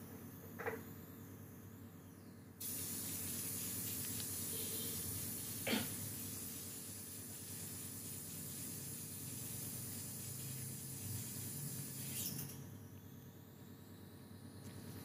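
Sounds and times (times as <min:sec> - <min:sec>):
steady hiss: 0:02.6 - 0:15.0.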